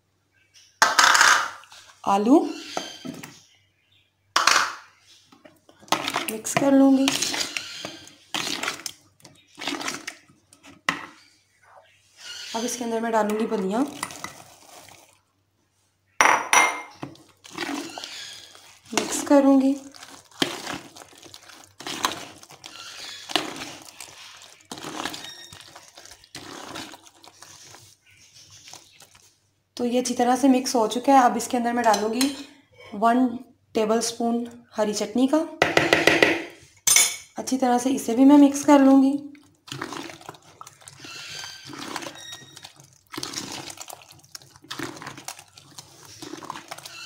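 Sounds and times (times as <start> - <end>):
spoon stirring thick mix in bowl: 4.4 - 15.2, 16.2 - 32.5, 35.6 - 47.0.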